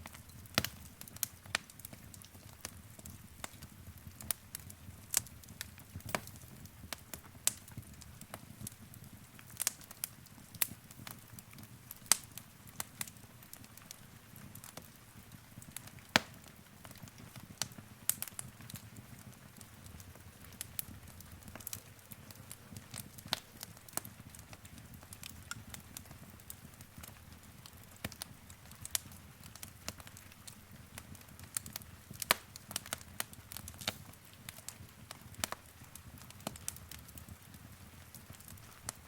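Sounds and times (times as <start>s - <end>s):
fire crackling with pops: 0.0s - 39.0s.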